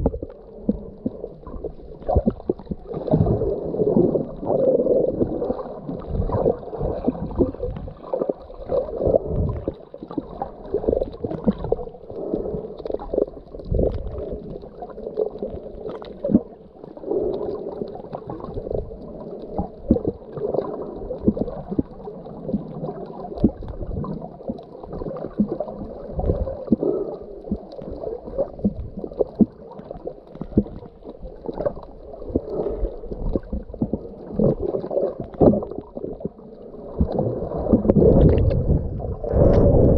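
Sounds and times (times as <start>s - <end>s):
muffled underwater gurgling: 0.0s - 39.9s.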